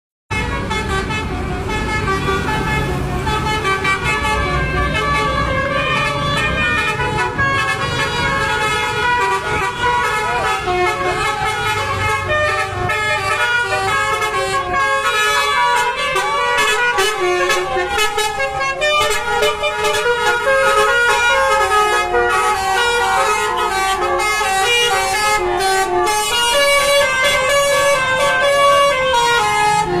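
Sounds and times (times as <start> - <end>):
bus horn playing melody: 0.3 - 30.0.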